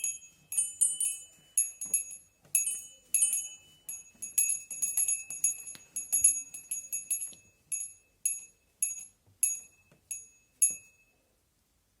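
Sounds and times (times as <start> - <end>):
small bell ringing: 0.0 - 11.2.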